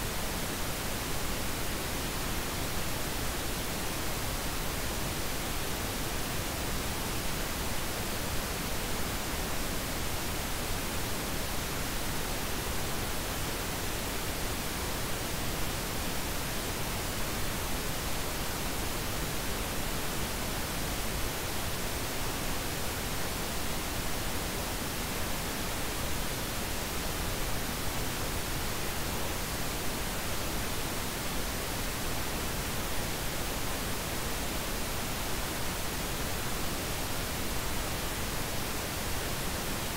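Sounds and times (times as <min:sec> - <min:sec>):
steady synthetic noise hiss: 0:00.0 - 0:39.9.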